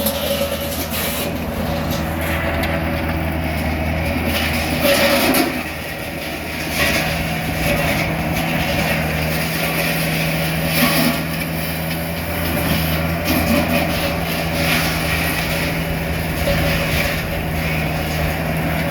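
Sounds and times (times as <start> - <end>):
engine running steadily: 0.0 - 18.9.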